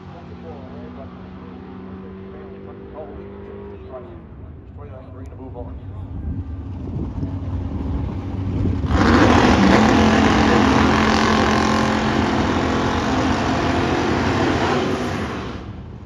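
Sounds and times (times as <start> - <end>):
race car engine revving: 0.0 - 4.4, 6.0 - 15.9.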